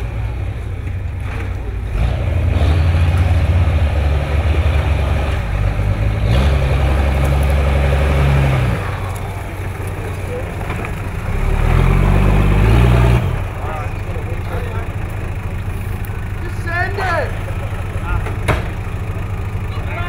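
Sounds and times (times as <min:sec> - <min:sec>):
truck engine revving under load: 0:00.0 - 0:20.0.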